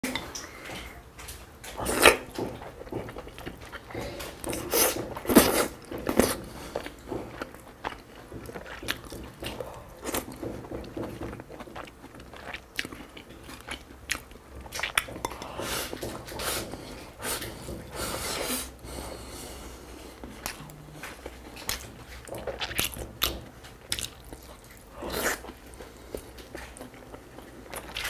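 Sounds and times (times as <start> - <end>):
chewing with mouth clicks: 1.6 - 16.4, 20.2 - 28.0.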